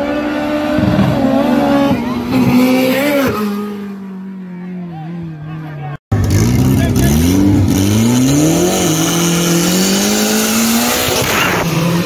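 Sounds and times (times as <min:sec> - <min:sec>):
race cars accelerating hard: 0:00.0 - 0:04.2, 0:04.8 - 0:12.0
cars passing by with a rush: 0:00.0 - 0:12.0.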